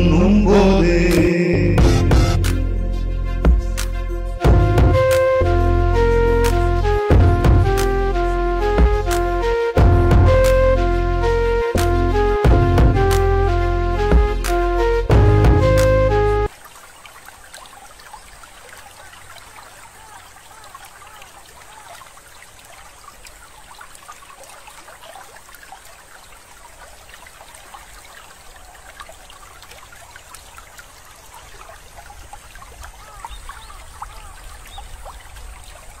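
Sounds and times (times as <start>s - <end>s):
water trickling and bubbling: 4.4s - 36.0s.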